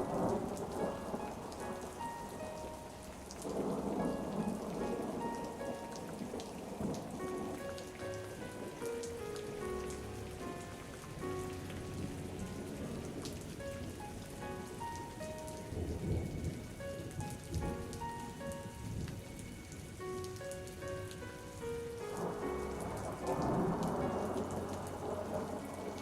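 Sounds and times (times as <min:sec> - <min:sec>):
low rumble of thunder: 0:00.0 - 0:08.8, 0:09.6 - 0:26.0
raindrops pattering: 0:00.0 - 0:26.0
soft instrumental melody: 0:00.0 - 0:26.0
steady rain falling: 0:00.0 - 0:26.0.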